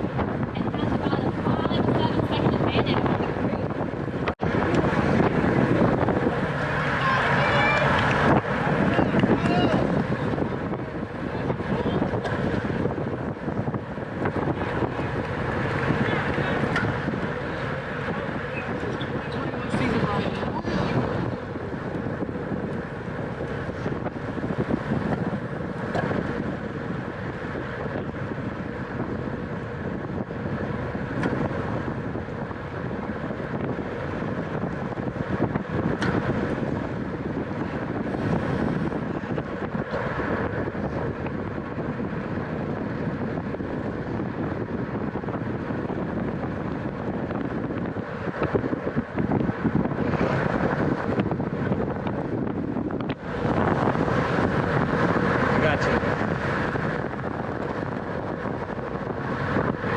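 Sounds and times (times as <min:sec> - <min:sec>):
bicycle rolling noise: 0:00.0 - 0:59.9
wind rushing over microphone: 0:00.0 - 0:59.9.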